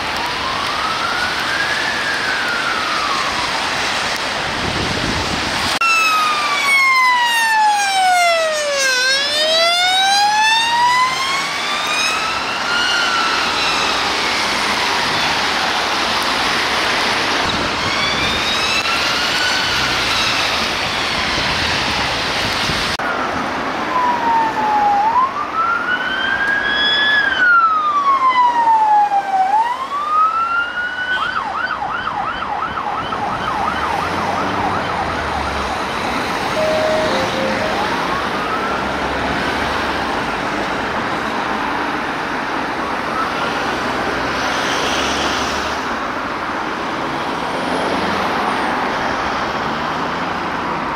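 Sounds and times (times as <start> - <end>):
emergency siren: 0.0 - 50.9
road traffic noise: 0.0 - 50.9.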